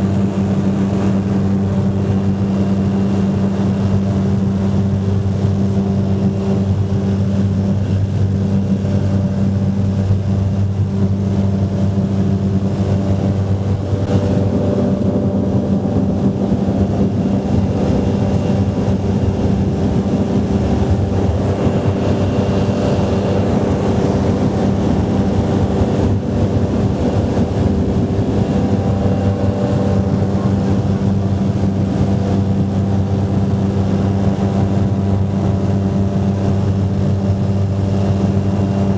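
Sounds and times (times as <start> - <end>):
propeller engine drone: 0.0 - 38.9.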